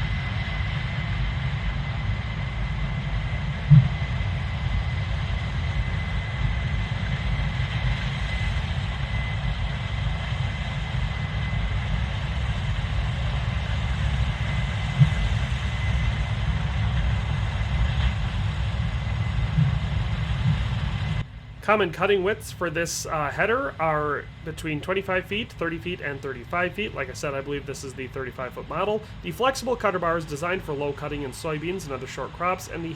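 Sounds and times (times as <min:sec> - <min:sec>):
combine harvester rumbling: 0:00.0 - 0:32.9.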